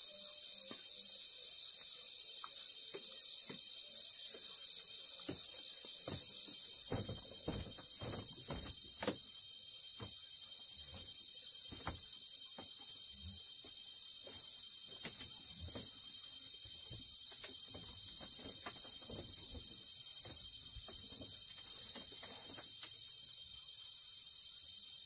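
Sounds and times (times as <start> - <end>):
insect chorus: 0.0 - 25.0.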